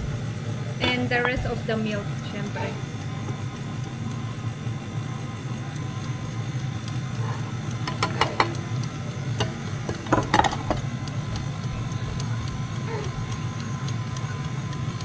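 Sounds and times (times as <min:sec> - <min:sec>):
electric mixer running: 0:00.0 - 0:15.0.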